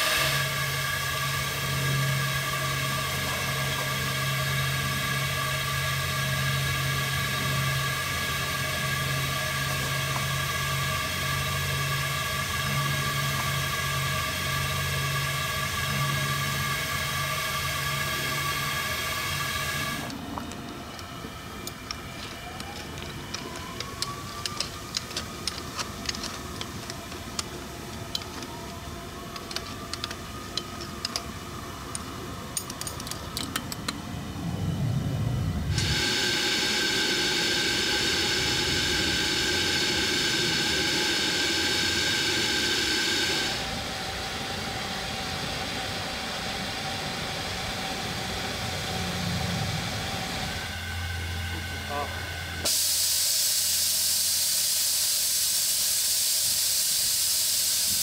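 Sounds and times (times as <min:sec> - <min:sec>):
steam hissing: 0:00.0 - 0:32.1, 0:35.7 - 0:58.0.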